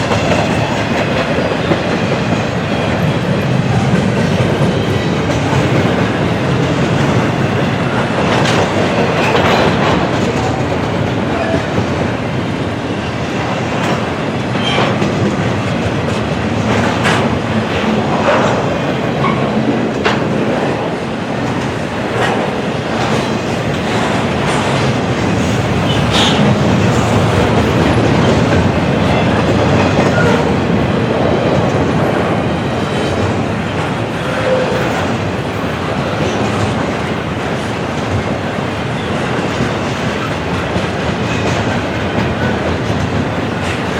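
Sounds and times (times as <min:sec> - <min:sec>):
train wheels clacking: 0:00.0 - 0:43.9
train wheels rumbling on rails: 0:00.0 - 0:43.9.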